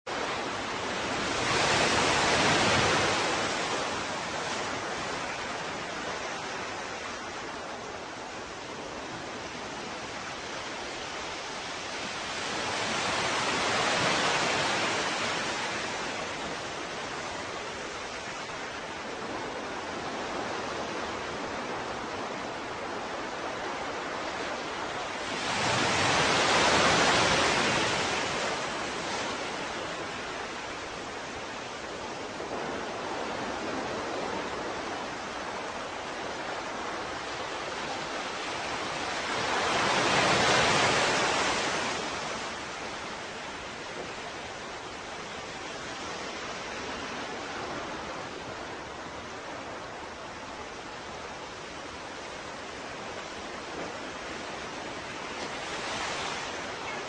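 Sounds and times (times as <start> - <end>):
ocean waves washing ashore: 0.1 - 57.0.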